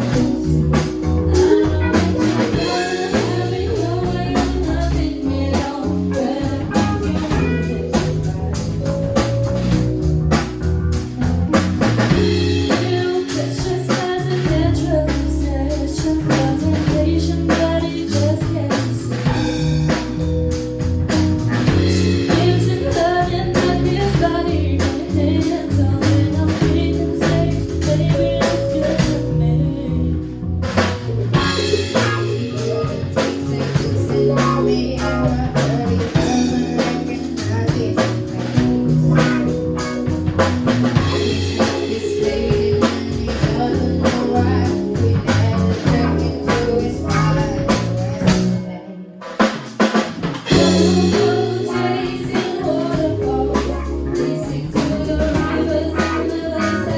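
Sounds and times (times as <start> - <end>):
person singing: 0.0 - 9.7, 12.1 - 20.2, 21.4 - 49.3, 50.5 - 56.9
drum kit: 0.0 - 29.3, 30.6 - 56.9
band playing: 0.0 - 29.5, 30.6 - 56.9
guitar: 0.0 - 56.9.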